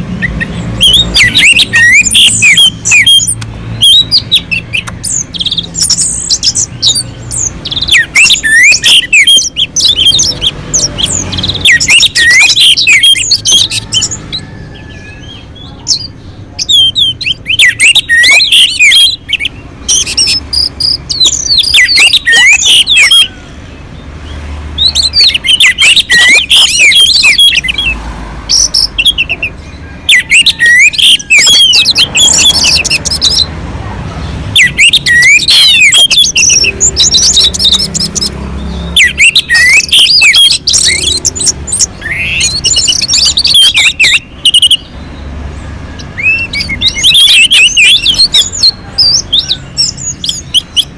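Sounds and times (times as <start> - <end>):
bird singing whistled phrases: 0.1 - 23.5, 24.8 - 33.5, 34.6 - 45.1, 45.9 - 50.9.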